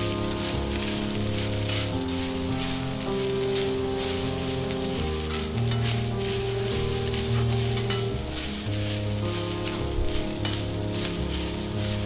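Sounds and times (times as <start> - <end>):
coconut sizzling in oil: 0.0 - 12.0
soft background music: 0.0 - 12.0
spatula scraping a pan: 0.0 - 12.0.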